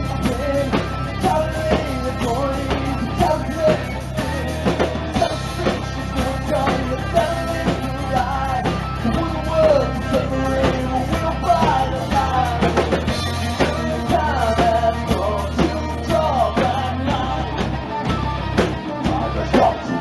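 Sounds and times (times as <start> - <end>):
hard rock band playing: 0.0 - 20.0
person singing lead vocal: 0.0 - 20.0.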